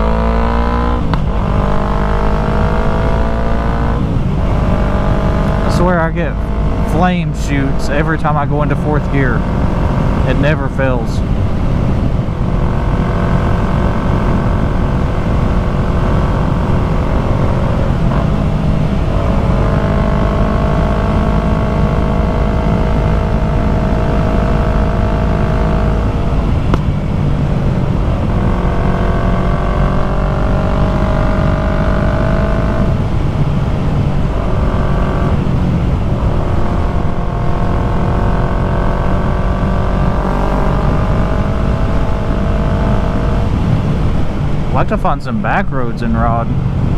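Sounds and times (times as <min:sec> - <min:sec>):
motorcycle engine riding: 0:00.0 - 0:46.9.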